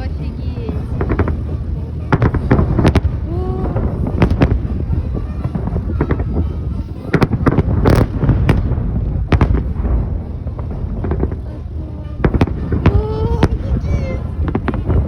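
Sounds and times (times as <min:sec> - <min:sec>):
fireworks cracks and bangs: 0:00.0 - 0:15.0
steady low rumble: 0:00.0 - 0:15.0.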